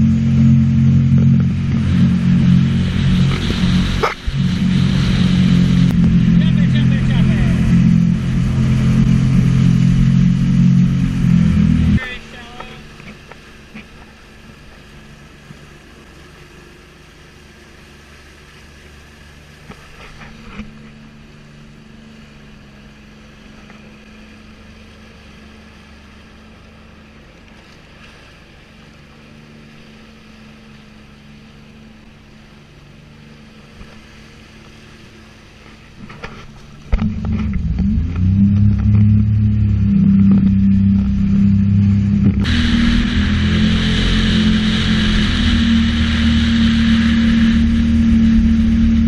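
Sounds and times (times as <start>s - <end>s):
jet ski engine idling and revving: 0.0s - 49.0s.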